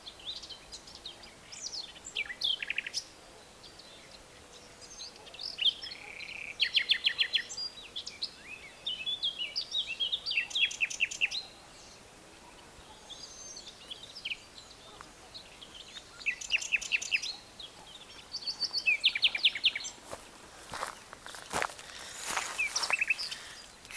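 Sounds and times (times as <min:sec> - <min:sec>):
faint background noise: 0:00.0 - 0:23.9
songbirds chirping and trilling: 0:00.0 - 0:23.9.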